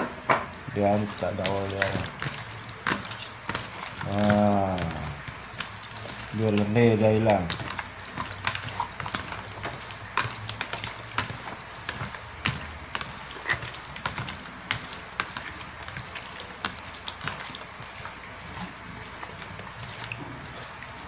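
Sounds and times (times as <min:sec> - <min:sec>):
wet squelches of fish being rubbed: 0:00.8 - 0:21.0.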